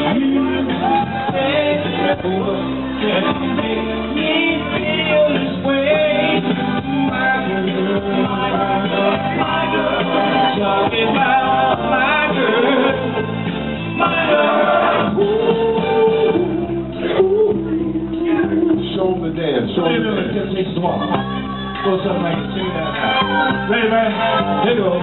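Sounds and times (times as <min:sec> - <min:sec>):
loud music with singer: 0:00.0 - 0:25.0.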